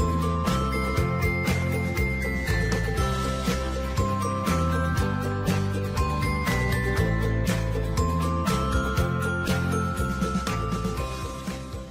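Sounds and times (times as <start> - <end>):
bright tinkling notes: 0.0 - 11.9
music with steady beat: 0.0 - 11.9.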